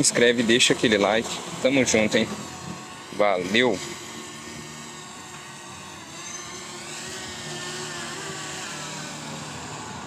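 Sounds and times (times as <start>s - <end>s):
drone propellers whirring: 0.0s - 10.0s.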